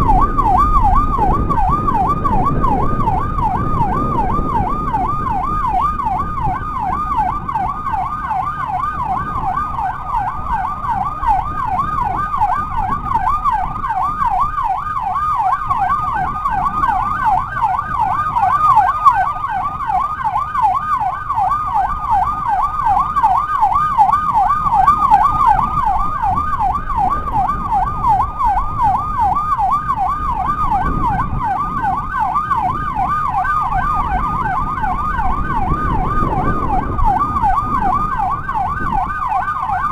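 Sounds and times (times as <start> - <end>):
electronic siren yelping: 0.0 - 39.9
wind: 0.0 - 39.9.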